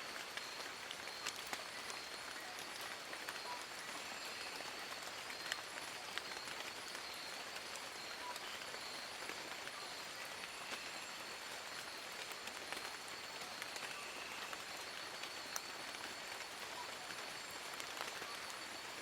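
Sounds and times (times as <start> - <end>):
rain on foliage: 0.0 - 19.0.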